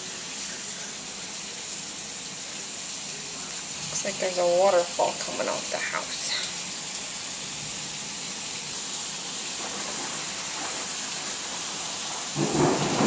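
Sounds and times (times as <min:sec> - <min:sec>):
torrential rain: 0:00.0 - 0:13.0.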